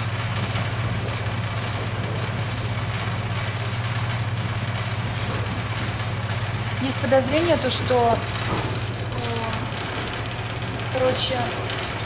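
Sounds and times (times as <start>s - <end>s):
electric train interior hum: 0.0s - 12.0s.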